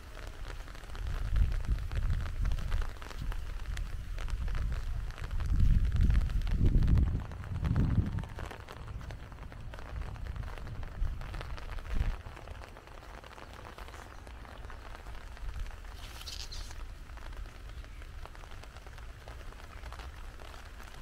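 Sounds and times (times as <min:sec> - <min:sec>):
heavy rain with ticking drops: 0:00.0 - 0:21.0.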